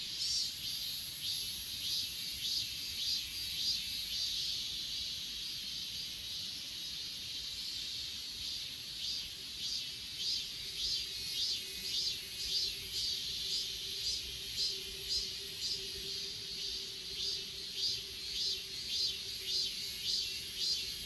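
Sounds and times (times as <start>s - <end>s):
insects shrill trilling: 0.0s - 21.0s.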